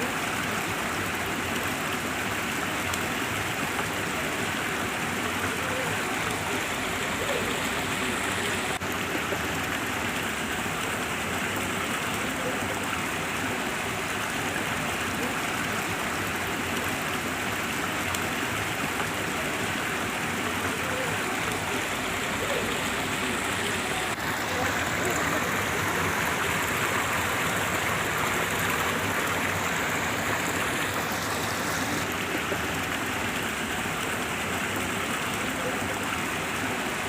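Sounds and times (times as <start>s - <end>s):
water rushing: 0.0s - 37.0s.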